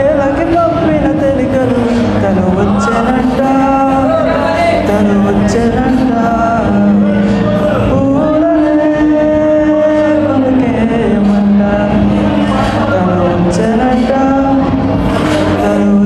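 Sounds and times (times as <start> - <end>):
backing music: 0.0 - 16.0
man singing into a microphone: 0.0 - 16.0.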